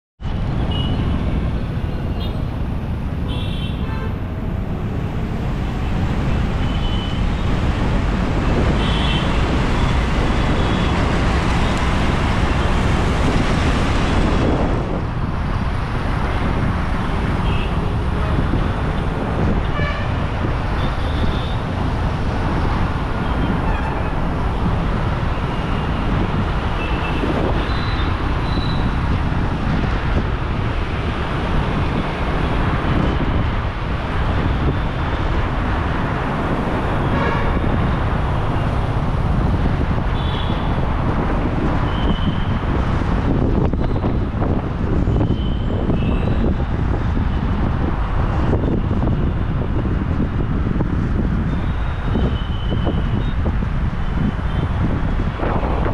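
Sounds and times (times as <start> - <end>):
city traffic noise: 0.2 - 55.9
wind rumble on microphone: 0.2 - 55.9.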